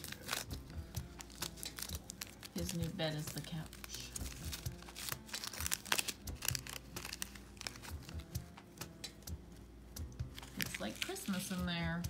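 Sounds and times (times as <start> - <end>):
foil packet crinkling and tearing: 0.0 - 8.4, 10.3 - 11.6.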